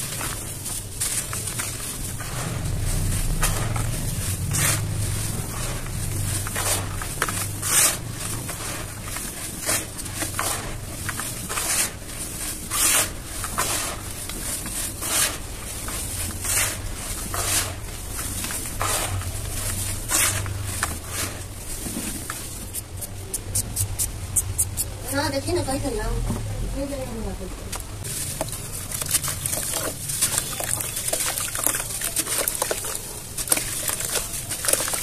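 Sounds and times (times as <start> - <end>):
hands crumbling dry cement: 0.0 - 24.9, 28.0 - 35.0.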